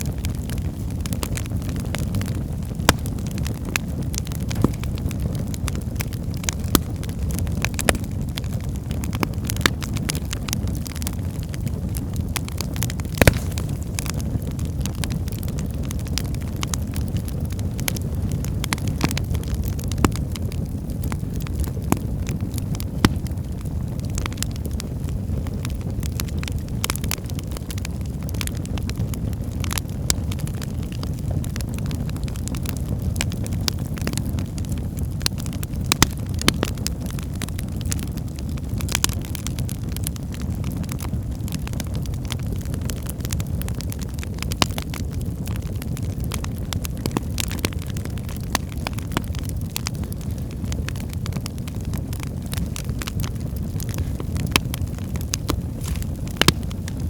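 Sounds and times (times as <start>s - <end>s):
fire flames rushing: 0.0s - 57.0s
logs crackling and popping: 0.0s - 57.0s.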